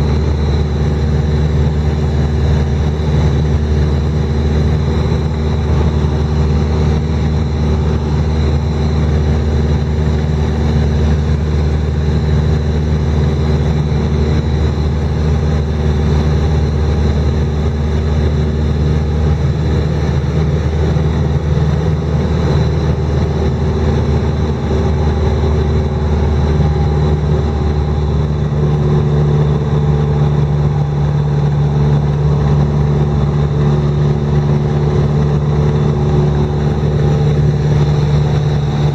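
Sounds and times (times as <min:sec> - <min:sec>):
engine humming: 0:00.0 - 0:38.9.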